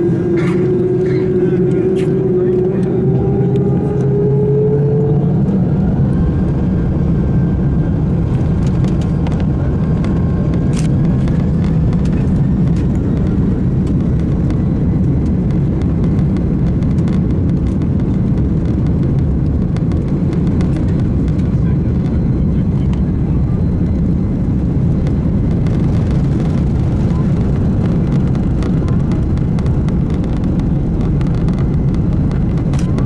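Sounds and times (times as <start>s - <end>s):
jet engine and air noise: 0.0s - 33.0s.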